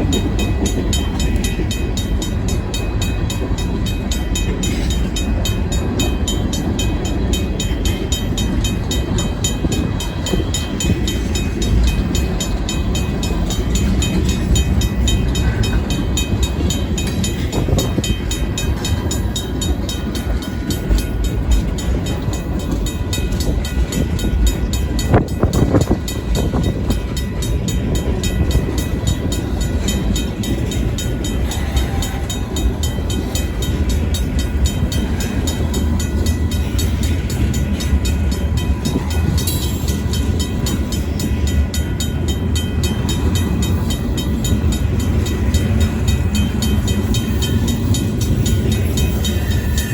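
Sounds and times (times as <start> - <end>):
crossing bell ringing: 0.0 - 49.9
freight train rumbling: 0.0 - 49.9
train rattle: 0.0 - 49.9.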